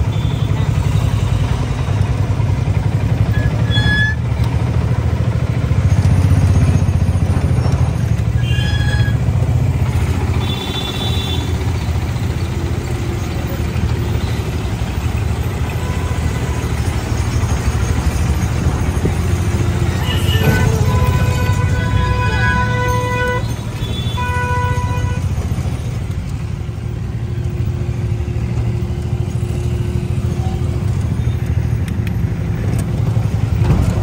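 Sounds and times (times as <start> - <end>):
moving train rumble: 0.0 - 34.0.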